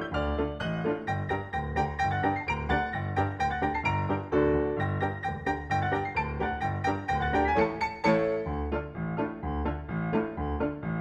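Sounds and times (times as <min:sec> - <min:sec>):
light piano tune: 0:00.0 - 0:11.0.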